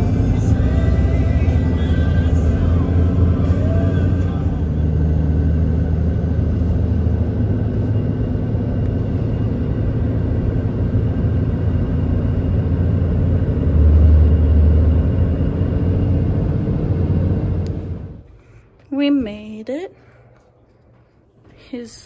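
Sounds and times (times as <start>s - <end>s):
engine and road rumble: 0.0s - 19.1s.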